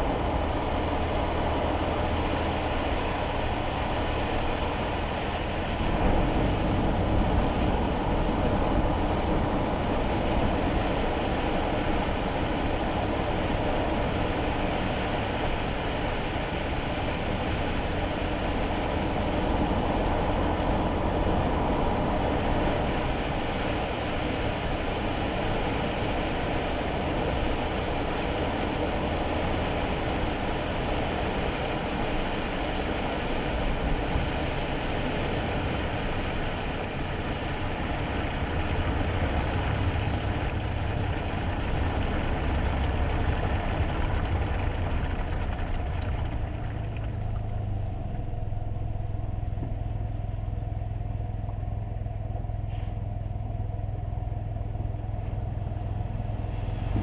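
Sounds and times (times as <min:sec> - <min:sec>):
continuous hiss of wet road: 0:00.0 - 0:57.0
road and tyre rumble: 0:00.0 - 0:57.0.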